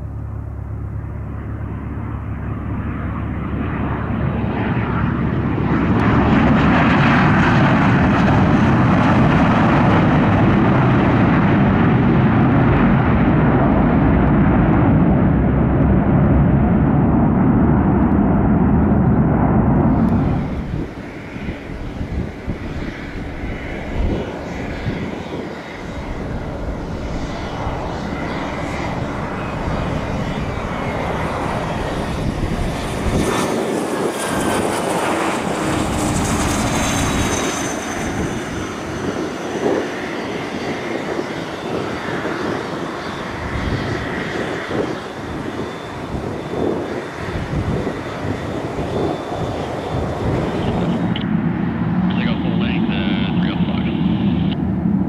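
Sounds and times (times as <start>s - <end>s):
high turbine whine: 0.0s - 55.0s
jet engines landing: 0.0s - 55.0s.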